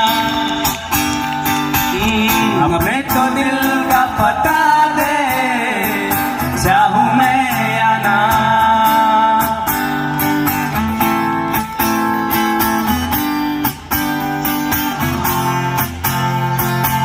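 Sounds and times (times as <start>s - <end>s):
plucked guitar-like melody: 0.0s - 17.0s.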